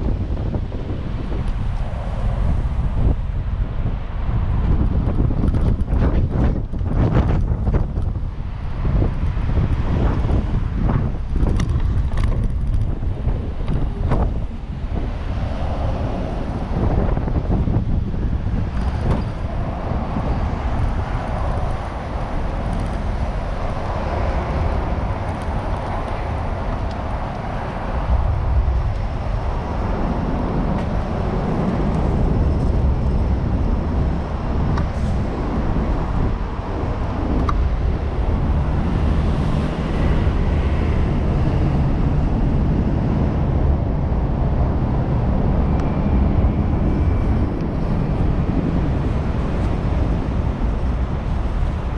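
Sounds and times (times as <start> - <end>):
road traffic: 0.0 - 51.9
wind rumbling on microphone: 0.0 - 51.9.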